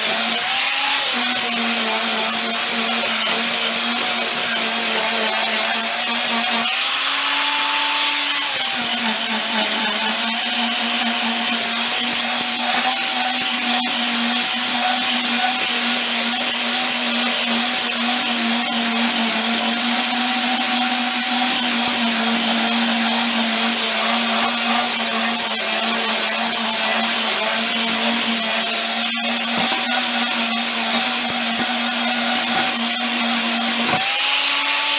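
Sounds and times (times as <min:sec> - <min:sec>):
power tool motor hum: 0:00.0 - 0:34.9.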